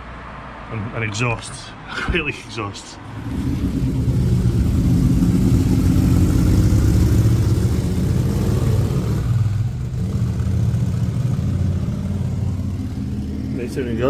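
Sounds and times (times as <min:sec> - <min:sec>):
motorcycle engines: 0:00.6 - 0:14.0.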